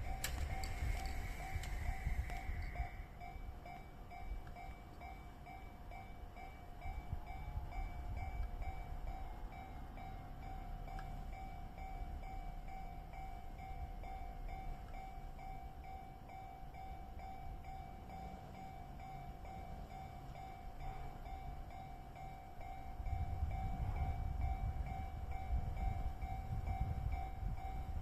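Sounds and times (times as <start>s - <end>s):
level crossing warning bell: 0.0s - 28.0s
low rumble of passing train: 0.0s - 28.0s.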